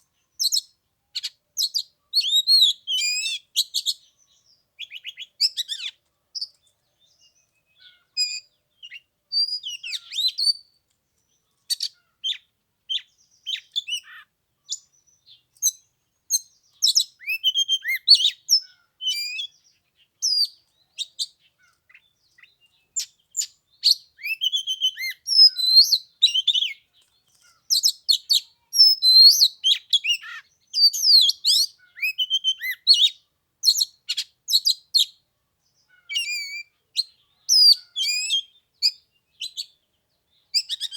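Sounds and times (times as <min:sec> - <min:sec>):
magpie-robin singing: 0:00.1 - 0:40.9.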